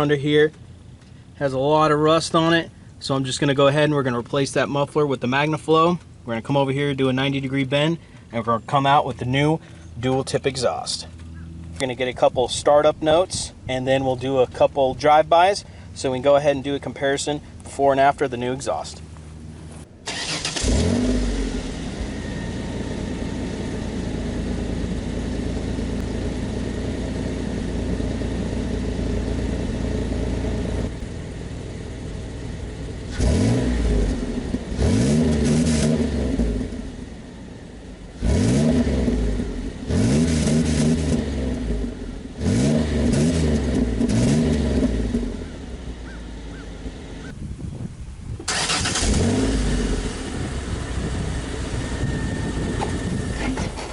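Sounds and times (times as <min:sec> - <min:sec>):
truck engine idling and revving: 0:00.0 - 0:47.4, 0:48.3 - 0:53.9.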